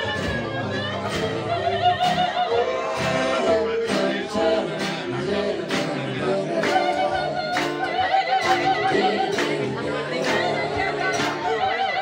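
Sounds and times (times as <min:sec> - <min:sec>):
strummed acoustic guitar: 0:00.0 - 0:12.0
voices singing with vibrato: 0:00.0 - 0:12.0.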